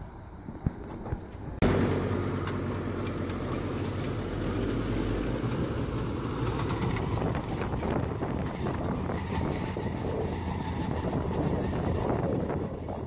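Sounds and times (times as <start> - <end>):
tractor engine running: 0.5 - 13.0.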